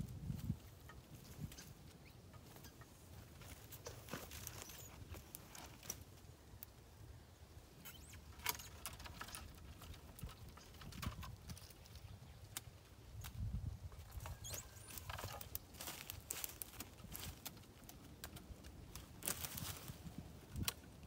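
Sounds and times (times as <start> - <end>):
twigs rustling: 0.0 - 6.8, 7.8 - 21.0.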